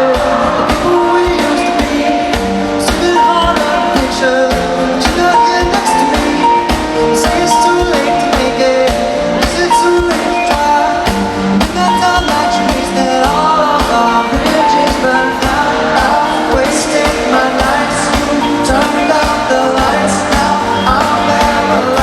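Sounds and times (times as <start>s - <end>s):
drum hits: 0.0s - 22.0s
live pop-rock band playing: 0.0s - 22.0s
person singing: 0.0s - 22.0s.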